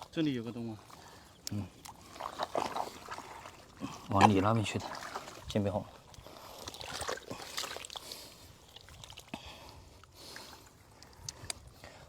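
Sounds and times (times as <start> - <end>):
splashing in muddy water: 0.8 - 11.6.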